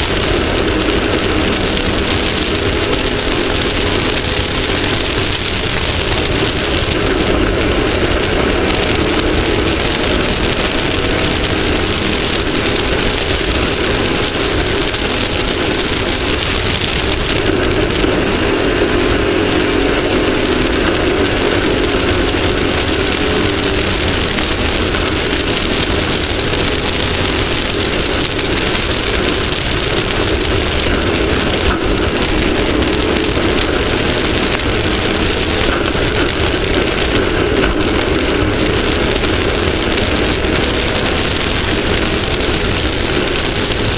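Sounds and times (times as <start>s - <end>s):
off-road vehicle engine running: 0.0s - 43.9s
terrain noise: 0.0s - 43.9s
wind rush: 0.0s - 43.9s.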